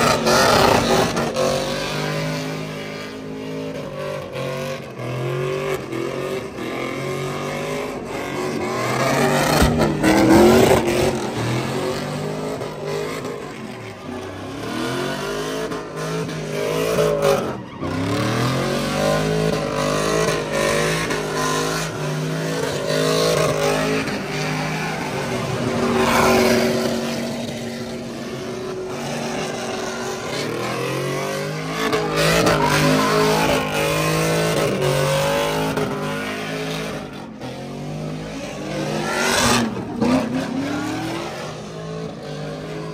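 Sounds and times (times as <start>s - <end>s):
truck engines revving: 0.0s - 42.9s.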